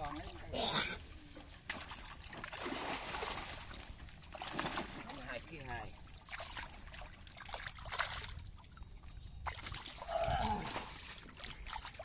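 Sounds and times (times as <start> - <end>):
fish splashing in shallow water: 1.4 - 12.0.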